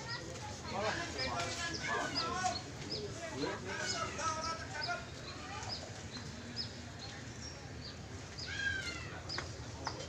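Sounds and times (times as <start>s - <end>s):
low background murmur: 0.0s - 10.0s.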